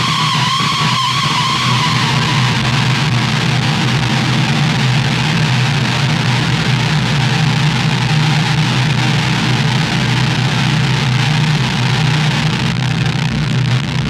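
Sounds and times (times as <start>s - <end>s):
low synth drone: 0.0s - 14.0s
noisy hiss: 0.0s - 14.0s.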